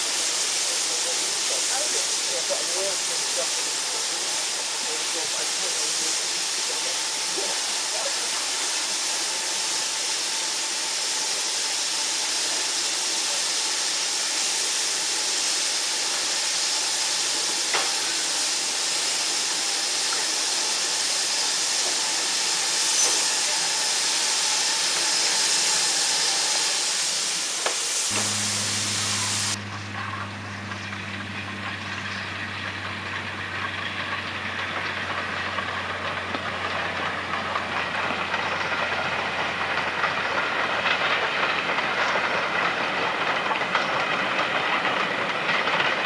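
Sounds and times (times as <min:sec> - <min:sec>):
steam hissing: 0:00.0 - 0:46.0.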